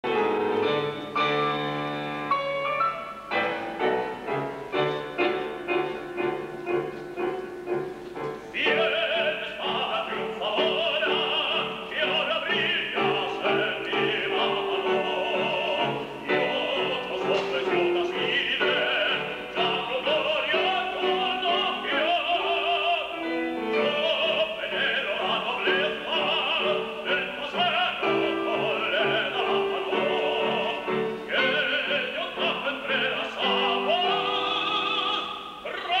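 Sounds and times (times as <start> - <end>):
operatic singing with vibrato: 0.0 - 36.0
piano repeated chords: 0.0 - 36.0.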